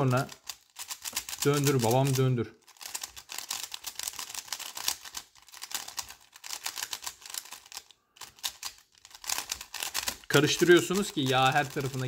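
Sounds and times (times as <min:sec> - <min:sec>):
puzzle cube clicking: 0:00.0 - 0:12.0.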